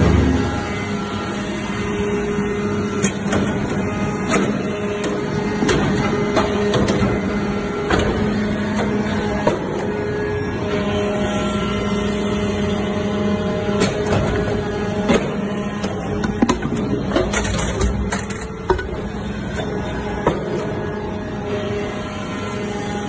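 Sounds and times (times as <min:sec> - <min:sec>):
hydraulic pump humming: 0:00.0 - 0:23.0.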